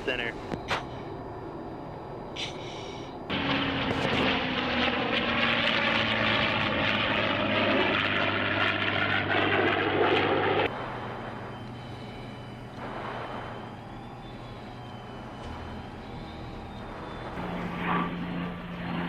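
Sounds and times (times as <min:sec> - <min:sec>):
quiet steady engine sound: 0:00.0 - 0:19.0
military aircraft passing close: 0:03.0 - 0:19.0.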